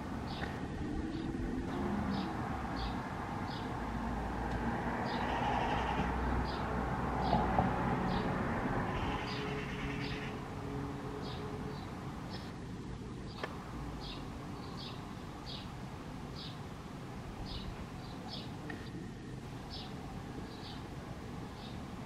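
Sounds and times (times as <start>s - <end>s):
distant road traffic hum: 0.0s - 22.0s.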